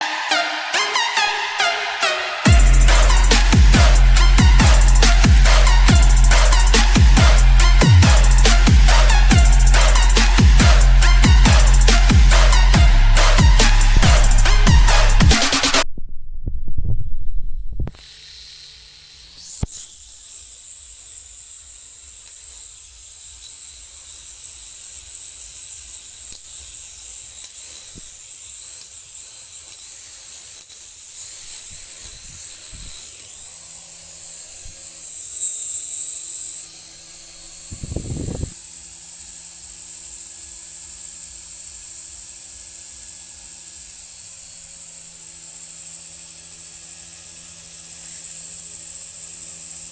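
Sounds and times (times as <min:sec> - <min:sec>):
toy helicopter motor whining: 0:00.0 - 0:15.8, 0:17.9 - 0:49.9.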